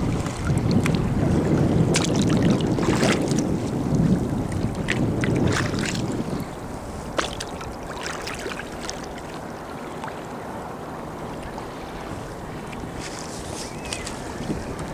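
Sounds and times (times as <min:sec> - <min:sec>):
water lapping against kayak hull: 0:00.0 - 0:14.9
wind rumble on microphone: 0:00.0 - 0:14.9.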